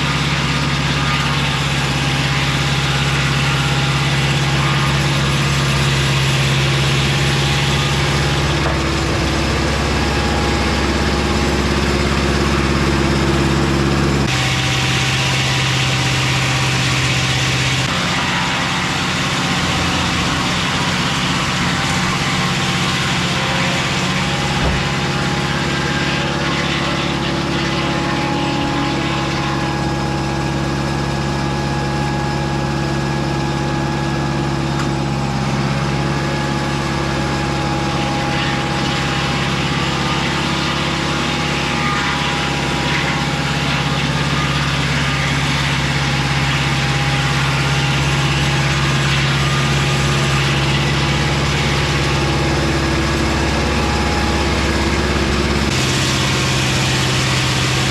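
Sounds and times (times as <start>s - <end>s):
sawmill engine humming: 0.0s - 57.9s.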